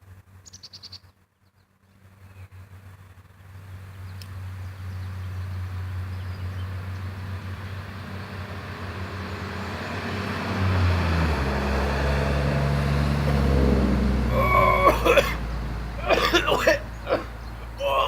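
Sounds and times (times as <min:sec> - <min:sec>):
vehicle engine approaching: 0:01.5 - 0:18.0.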